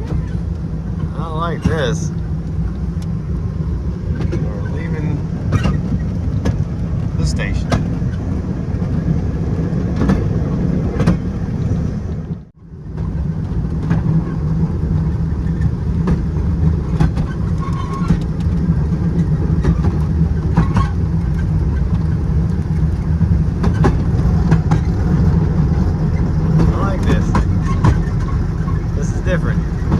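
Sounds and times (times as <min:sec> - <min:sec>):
train cars rumbling on track: 0:00.0 - 0:29.9
wheels and couplers clanking: 0:00.0 - 0:29.9.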